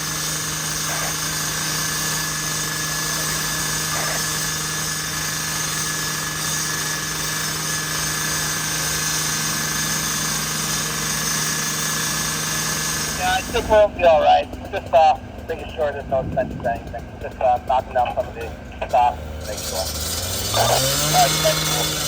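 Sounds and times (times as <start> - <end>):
engine or fan running steadily: 0.0 - 22.0.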